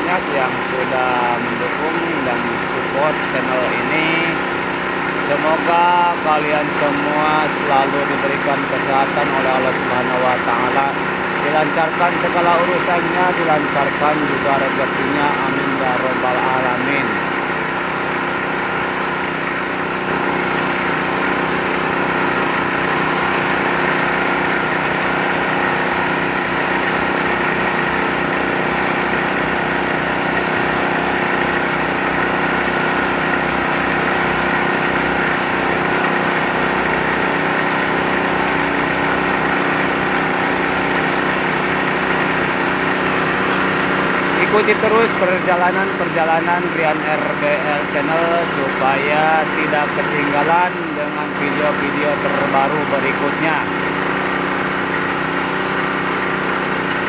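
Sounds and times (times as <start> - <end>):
drilling machine engine running: 0.0 - 57.0.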